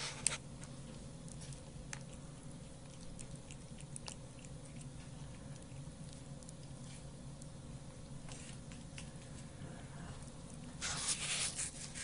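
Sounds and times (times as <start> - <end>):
cat chewing wet food: 0.0 - 12.0.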